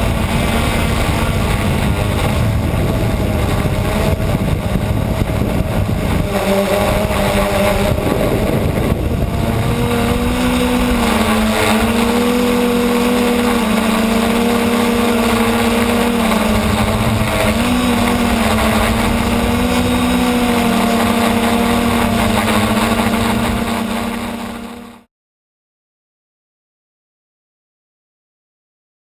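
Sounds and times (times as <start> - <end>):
wind rush: 0.0 - 24.8
model aircraft propeller drone: 0.0 - 25.1.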